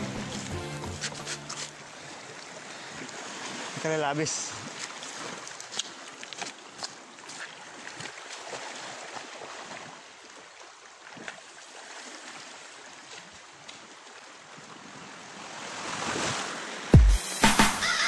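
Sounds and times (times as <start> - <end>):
waves lapping against rocks: 0.3 - 16.9.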